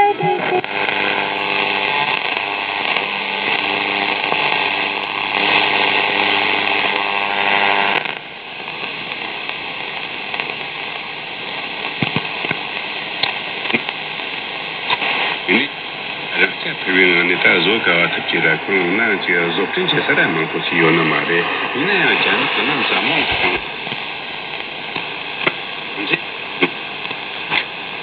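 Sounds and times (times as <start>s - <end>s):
crackly radio static: 0.0s - 28.0s
radio static buzzing tone: 0.0s - 28.0s.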